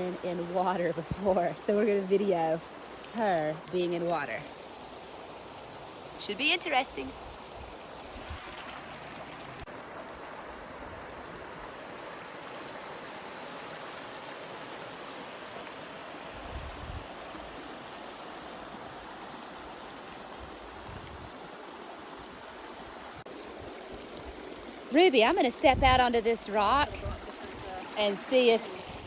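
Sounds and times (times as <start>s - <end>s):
creek rushing over stones: 0.0s - 29.0s.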